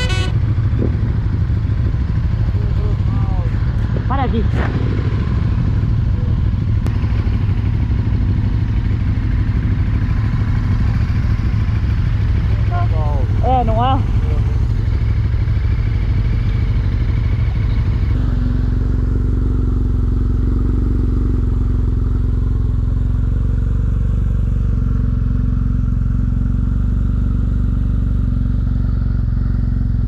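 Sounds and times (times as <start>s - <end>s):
motorcycle engine idling: 0.0s - 30.0s
other motorcycles idling: 0.0s - 30.0s.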